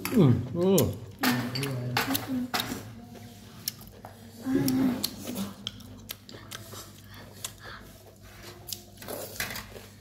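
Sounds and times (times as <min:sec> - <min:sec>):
people chewing: 0:00.0 - 0:10.0.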